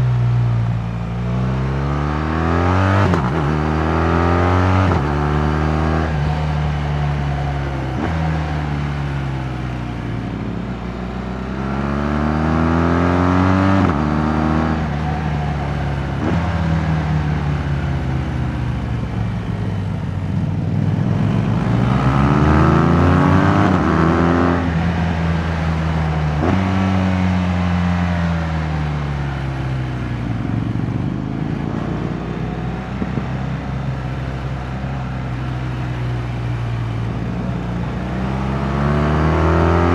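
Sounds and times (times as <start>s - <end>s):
wind and road noise: 0.0s - 39.9s
motorcycle engine accelerating: 0.5s - 39.9s.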